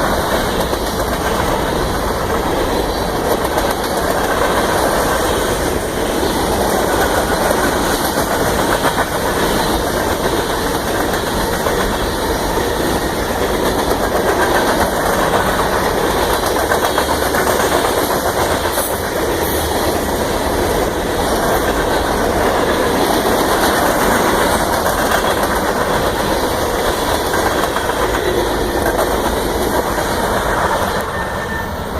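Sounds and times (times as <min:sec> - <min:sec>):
diesel locomotive engines: 0:00.0 - 0:31.9
train wheels rumbling on rails: 0:00.0 - 0:31.9.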